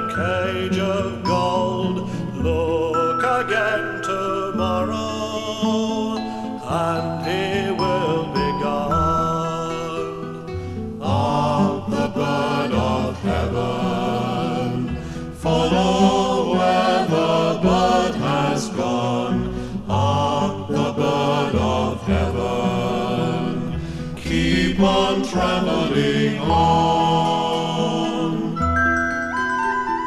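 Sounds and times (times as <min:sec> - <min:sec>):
folk song group singing: 0:00.0 - 0:28.8
instrumental backing with bass: 0:00.0 - 0:30.0.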